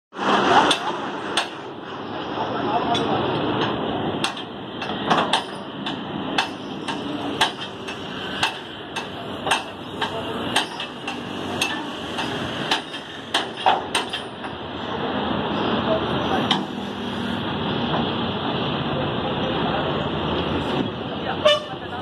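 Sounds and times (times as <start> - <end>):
road traffic hum: 0.1 - 22.0.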